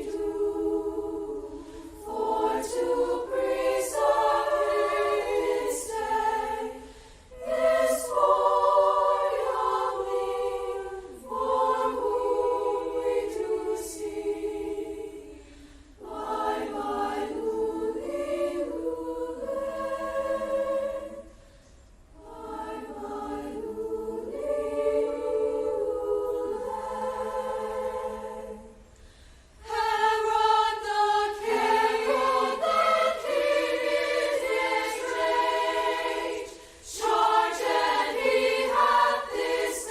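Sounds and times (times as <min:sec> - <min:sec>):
choir singing: 0:00.0 - 0:21.6, 0:22.2 - 0:28.9, 0:29.6 - 0:39.9.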